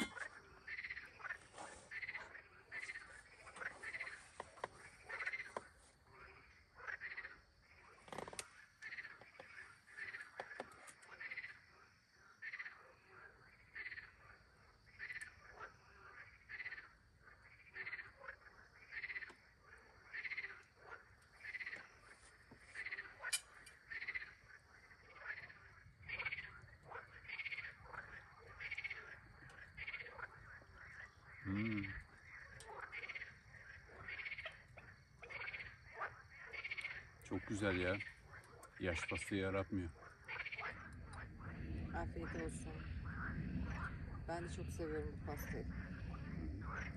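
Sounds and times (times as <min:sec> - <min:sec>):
frogs croaking: 0:00.0 - 0:46.9.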